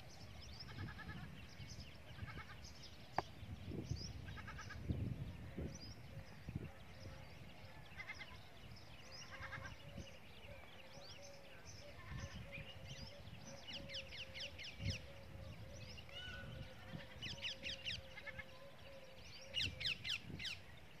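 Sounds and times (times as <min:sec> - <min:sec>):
small birds twittering: 0:00.0 - 0:21.0.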